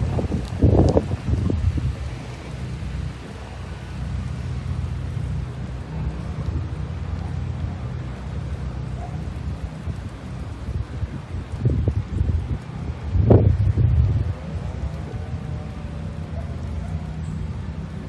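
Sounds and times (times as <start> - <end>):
rain: 0.0 - 18.0
wind buffeting microphone: 0.0 - 18.0.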